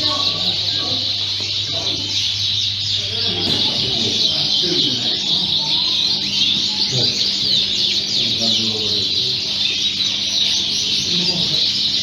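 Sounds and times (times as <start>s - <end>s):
canaries chirping and singing: 0.0s - 12.0s
murmur of people talking: 0.0s - 12.0s.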